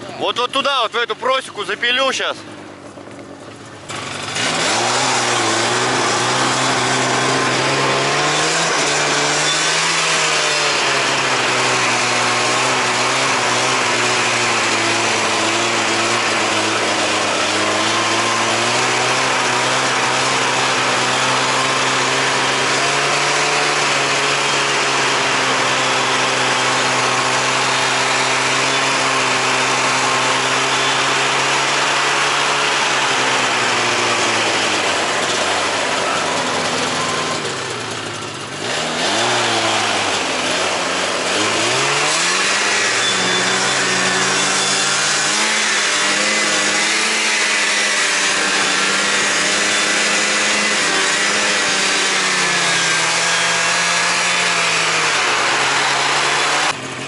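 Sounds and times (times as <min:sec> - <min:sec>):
snowmobile engine running hard: 0:00.0 - 0:57.0.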